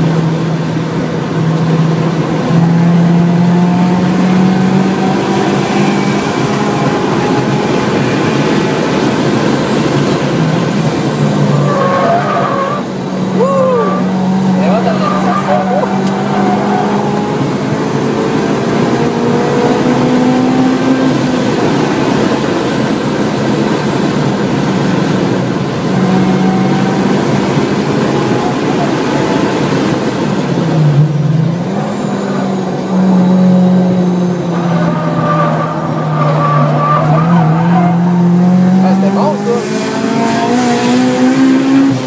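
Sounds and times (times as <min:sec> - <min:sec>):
car engine at high revs: 0:00.0 - 0:42.0
road and wind noise: 0:00.0 - 0:42.0.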